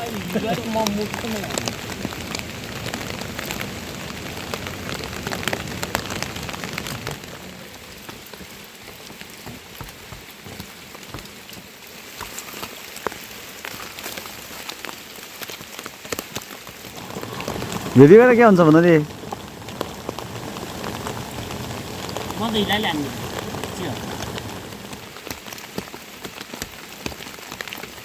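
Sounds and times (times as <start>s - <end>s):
steady rain with drop hits: 0.0s - 28.0s.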